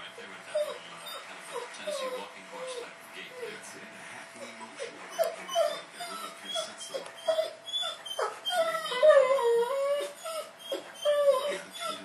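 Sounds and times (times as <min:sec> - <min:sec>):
dog whining: 0:00.5 - 0:03.6, 0:04.8 - 0:12.0.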